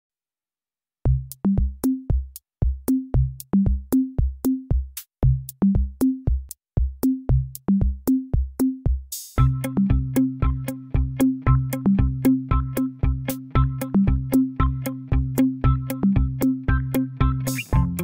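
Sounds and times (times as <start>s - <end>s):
electronic drum-machine beat: 1.1s - 18.0s.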